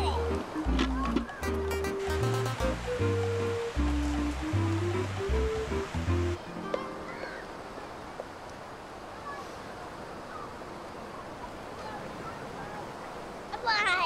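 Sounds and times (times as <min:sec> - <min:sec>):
faint distant calls: 0:00.0 - 0:13.5
surf hissing: 0:00.0 - 0:14.0.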